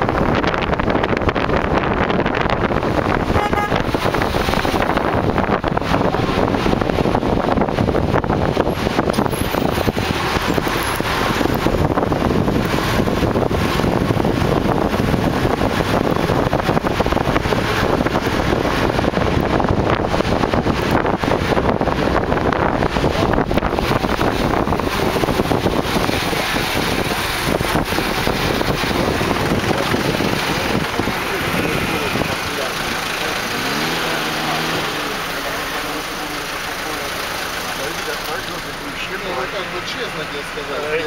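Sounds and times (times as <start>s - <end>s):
wind buffeting microphone: 0.0s - 35.3s
city traffic rumble: 0.0s - 41.0s.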